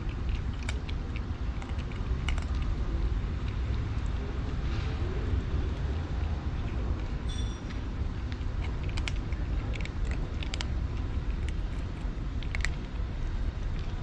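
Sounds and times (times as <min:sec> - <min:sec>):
kitten chewing clicks: 0:00.0 - 0:14.0
low background rumble: 0:00.0 - 0:14.0.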